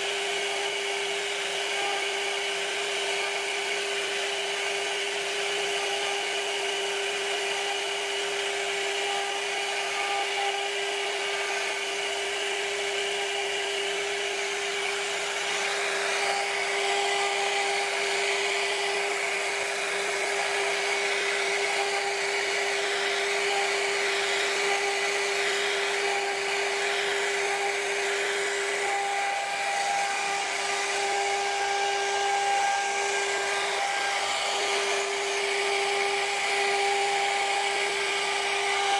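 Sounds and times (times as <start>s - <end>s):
router bit hissing through wood: 0.0s - 38.9s
router spindle high whine: 0.0s - 38.9s.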